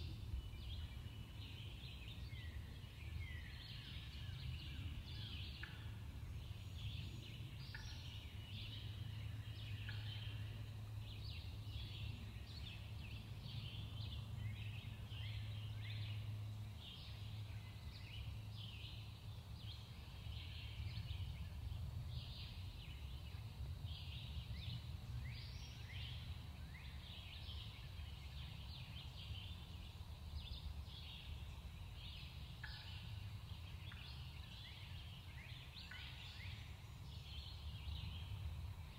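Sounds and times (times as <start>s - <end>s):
low steady hum: 0.0s - 38.9s
songbirds chirping and trilling: 0.0s - 38.9s.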